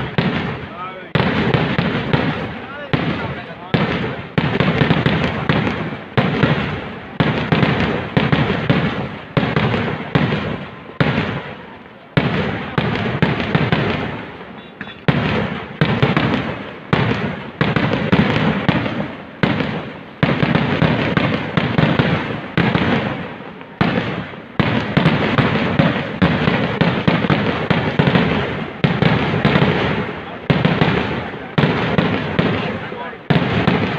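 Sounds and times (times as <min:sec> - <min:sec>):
fireworks bangs: 0:00.0 - 0:33.9
smaller firework cracks: 0:00.0 - 0:33.9.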